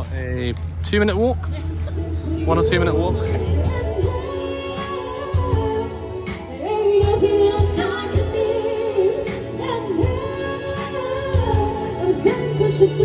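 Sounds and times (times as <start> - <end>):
live band playing pop: 1.5 - 13.0
singer holding long notes: 1.5 - 13.0.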